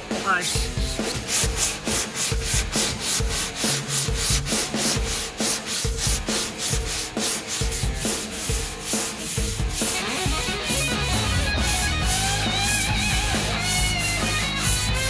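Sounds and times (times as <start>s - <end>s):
sanding board scraping: 0.1s - 15.0s.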